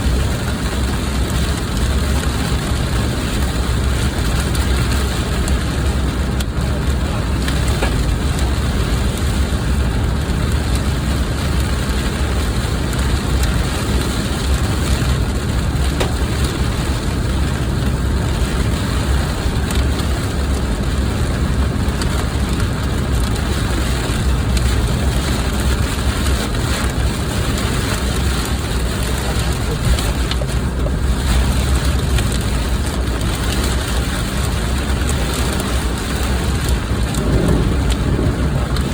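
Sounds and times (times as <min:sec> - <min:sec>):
heavy rain on a car: 0:00.0 - 0:38.9
low vehicle rumble: 0:00.0 - 0:38.9.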